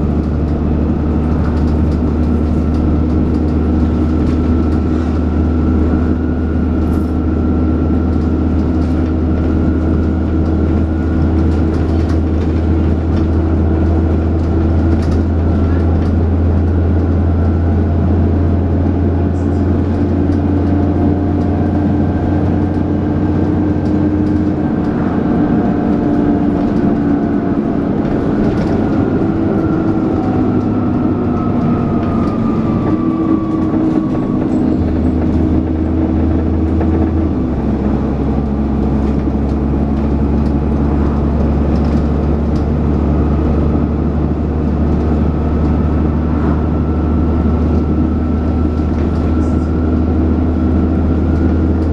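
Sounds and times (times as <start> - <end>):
bus engine drone: 0.0 - 51.9
bus whining tones: 0.0 - 51.9.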